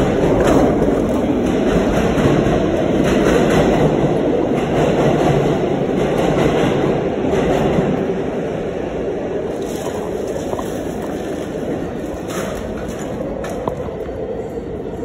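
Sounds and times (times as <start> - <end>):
wheels clattering on rail: 0.0 - 8.1, 9.5 - 14.2
subway train rumbling: 0.0 - 15.0.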